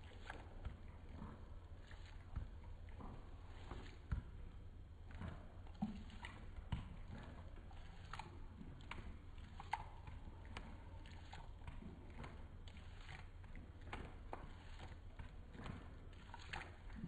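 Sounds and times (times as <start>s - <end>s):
dog licking and lapping: 0.0s - 17.0s
low steady hum: 0.0s - 17.0s.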